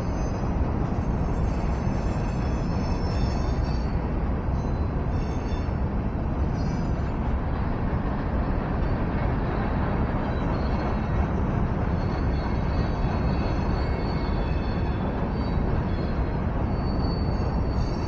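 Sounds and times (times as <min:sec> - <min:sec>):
freight train wagons rumbling: 0:00.0 - 0:18.0.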